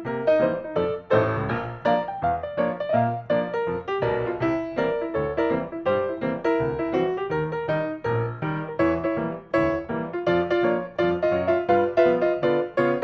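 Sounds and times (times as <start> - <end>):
piano melody with steady beat: 0.0 - 13.0.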